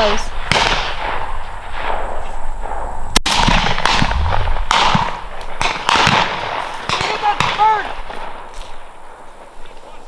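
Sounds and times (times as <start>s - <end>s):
shotgun shots: 0.0s - 8.6s.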